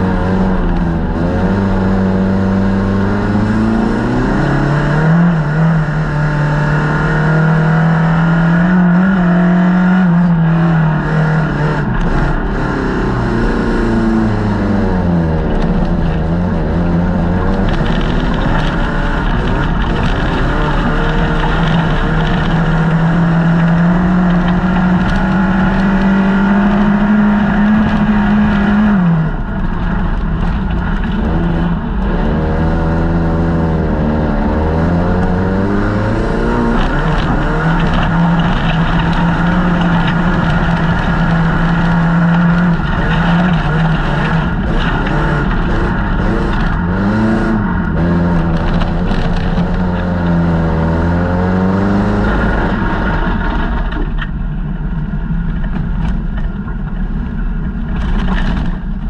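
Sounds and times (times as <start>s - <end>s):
car engine running under load: 0.0s - 59.0s.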